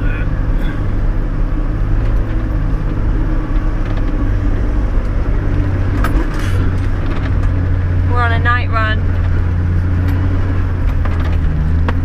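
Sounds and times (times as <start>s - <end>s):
engine droning inside cabin: 0.0s - 12.0s.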